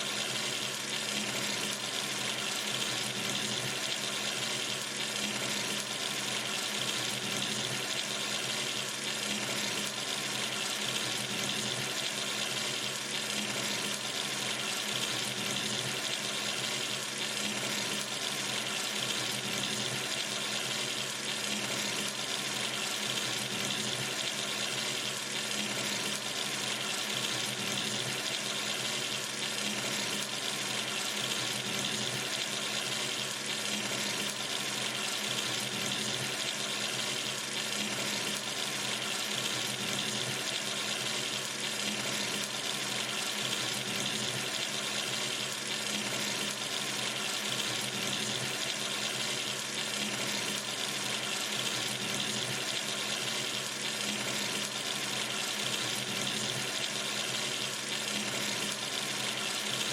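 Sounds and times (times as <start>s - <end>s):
water running from sink tap: 0.0s - 59.9s.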